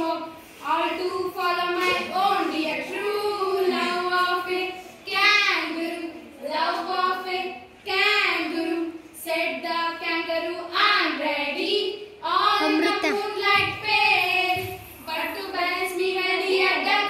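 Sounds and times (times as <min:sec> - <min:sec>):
girl singing into a microphone: 0:00.0 - 0:17.0.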